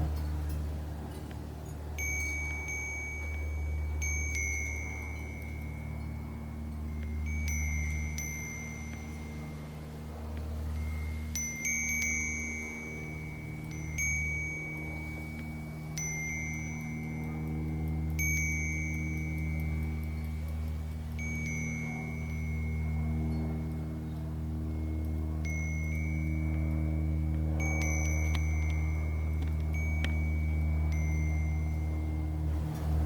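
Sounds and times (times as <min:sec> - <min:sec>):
low steady rumble: 0:00.0 - 0:33.0
wind chime ringing: 0:00.0 - 0:33.0.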